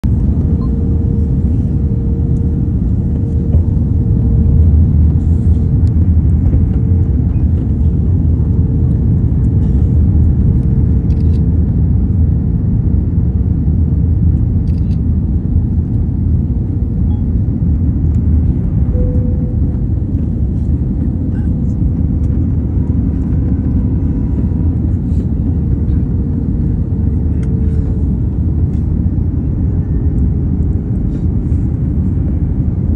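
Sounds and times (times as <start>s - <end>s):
jet engine and airflow rumble: 0.0s - 32.9s
steady hum tone: 0.0s - 32.9s.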